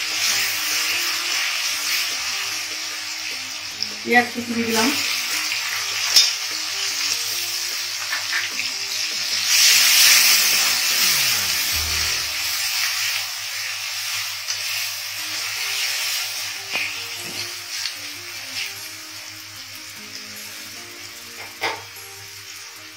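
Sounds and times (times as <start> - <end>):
onions sizzling in oil: 0.0 - 22.9
soft background music: 0.0 - 22.9.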